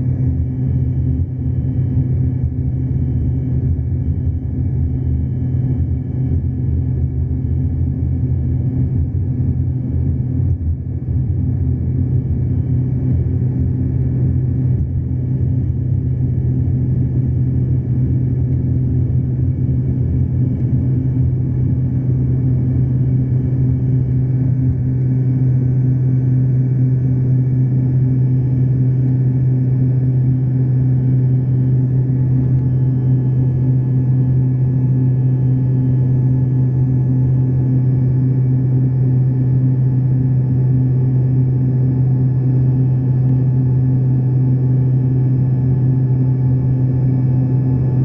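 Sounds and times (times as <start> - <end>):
airliner engines droning: 0.0 - 48.0.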